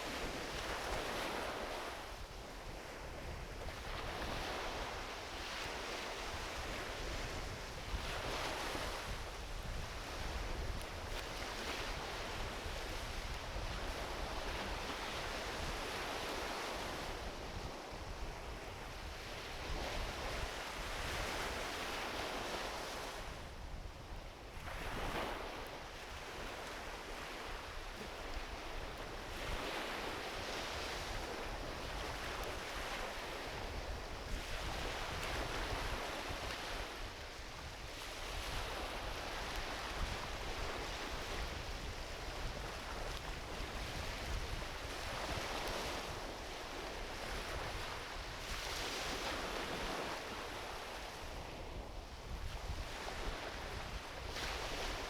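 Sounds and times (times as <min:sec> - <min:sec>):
ocean waves washing ashore: 0:00.0 - 0:55.0
wind rumble on microphone: 0:00.0 - 0:55.0.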